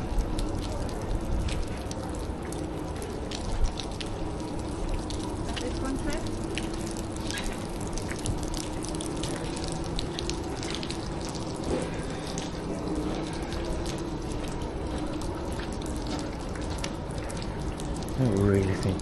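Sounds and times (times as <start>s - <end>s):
water dripping: 0.0s - 19.0s
water running and splashing: 0.0s - 19.0s.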